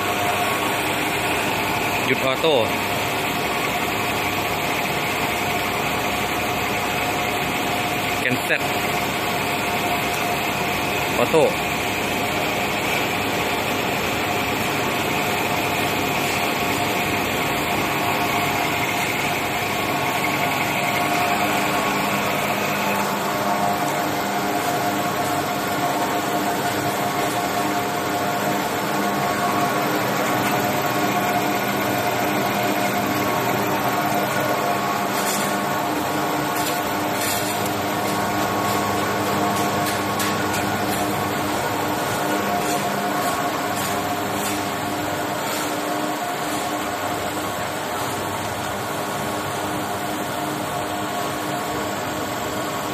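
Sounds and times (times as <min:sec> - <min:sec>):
high machine whine: 0:00.0 - 0:52.9
lathe machine hum: 0:00.0 - 0:52.9.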